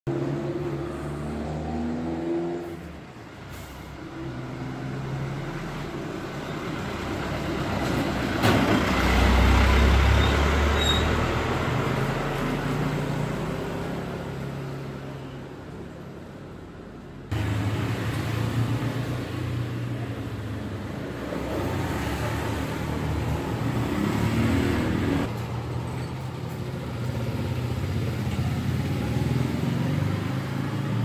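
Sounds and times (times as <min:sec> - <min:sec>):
traffic going past: 0:00.1 - 0:31.0.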